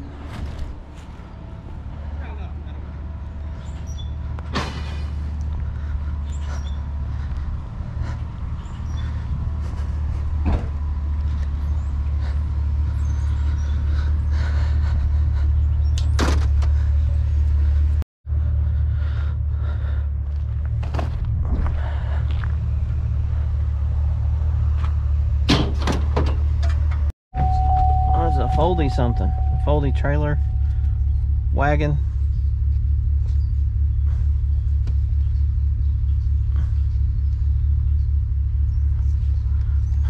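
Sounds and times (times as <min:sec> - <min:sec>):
truck engine and road rumble: 0:00.0 - 0:40.0.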